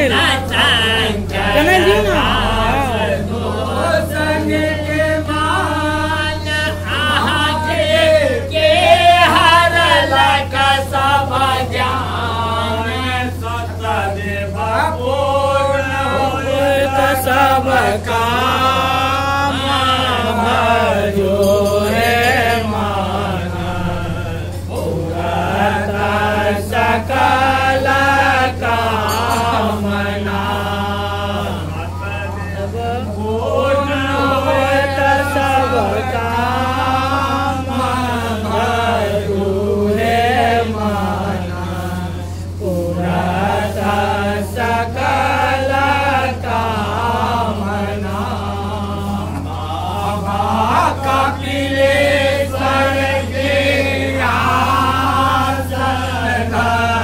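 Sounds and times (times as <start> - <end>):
steady low hum: 0.0 - 57.0
voices chanting a devotional song: 0.0 - 57.0.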